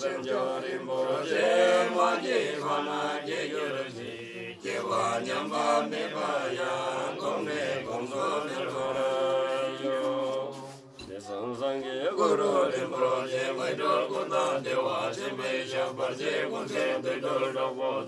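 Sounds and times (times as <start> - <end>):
monks chanting in deep voices: 0.0 - 18.0.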